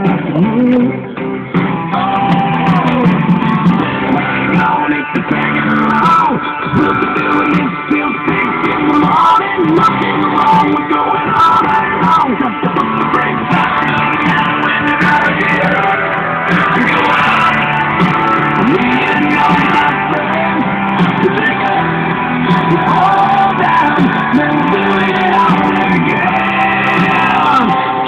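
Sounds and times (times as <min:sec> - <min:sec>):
rock song through speakers: 0:00.0 - 0:28.0.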